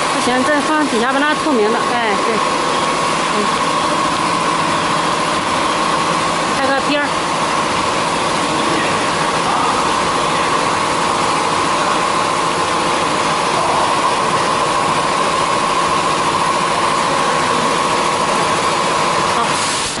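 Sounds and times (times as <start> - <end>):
machinery whining and humming: 0.0 - 20.0.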